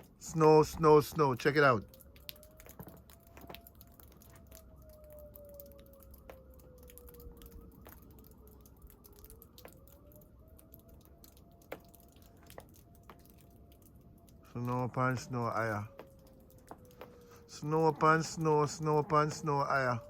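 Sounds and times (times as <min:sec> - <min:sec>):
distant siren wailing: 0:00.0 - 0:20.0.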